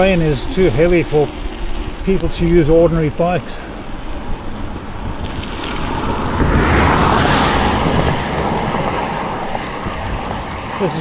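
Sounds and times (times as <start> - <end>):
fast vehicle passing: 0.0 - 11.0
wind buffeting microphone: 0.0 - 11.0.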